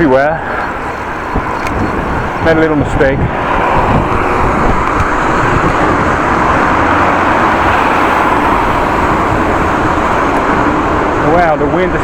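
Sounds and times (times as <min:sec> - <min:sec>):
strong wind over microphone: 0:00.0 - 0:12.0.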